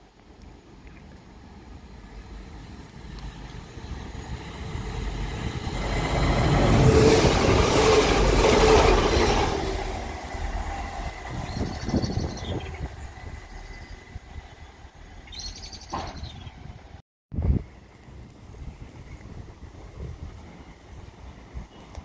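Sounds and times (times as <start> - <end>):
diesel train passing at speed: 0.4 - 17.0, 17.6 - 22.0.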